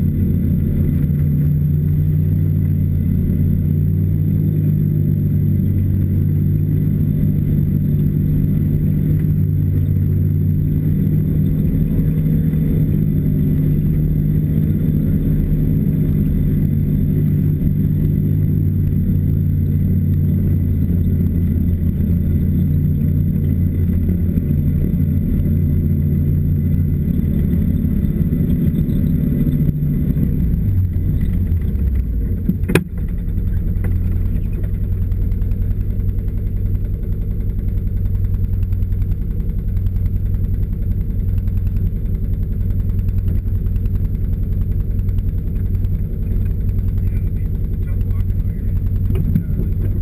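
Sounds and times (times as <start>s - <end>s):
snowmobile engine running: 0.0s - 50.0s.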